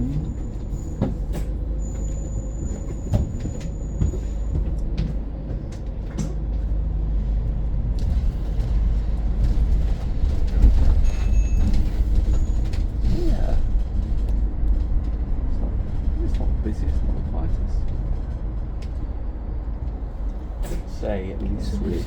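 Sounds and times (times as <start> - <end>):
bus interior rumble: 0.0 - 22.0
rattles and clicks from bus body: 0.0 - 22.0.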